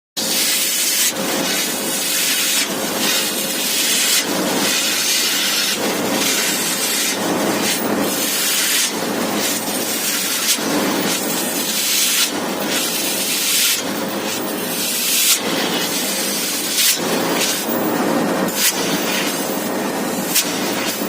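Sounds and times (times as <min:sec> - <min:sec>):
high-pressure water jet hissing: 0:00.2 - 0:21.0.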